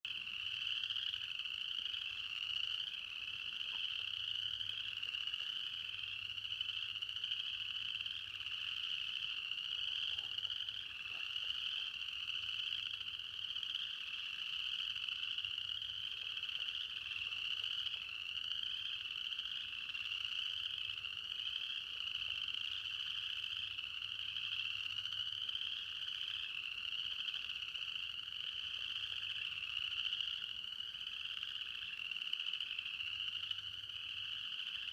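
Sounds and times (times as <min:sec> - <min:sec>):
frogs trilling: 0:00.1 - 0:34.9.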